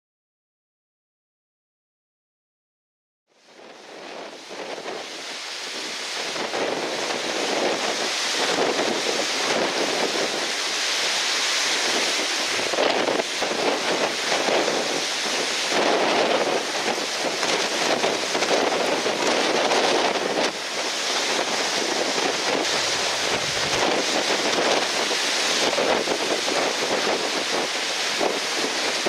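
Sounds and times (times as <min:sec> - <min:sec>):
rushing splashing water: 0:03.4 - 0:29.0
strong wind buffeting microphone: 0:03.4 - 0:29.0.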